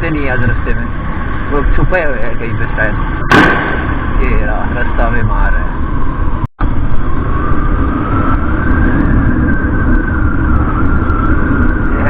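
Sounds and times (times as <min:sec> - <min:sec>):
motorcycle engine whine: 0:00.0 - 0:12.0
wind rumble on microphone: 0:00.0 - 0:12.0.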